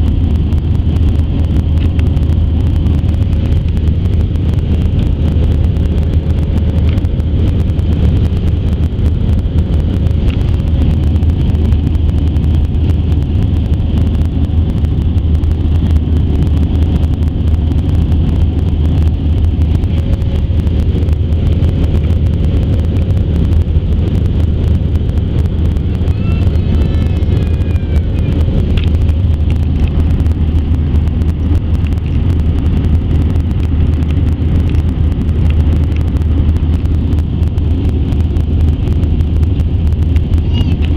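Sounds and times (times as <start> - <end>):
airliner engine rumble and airflow: 0.0 - 40.9
faint steady whine: 0.0 - 40.9.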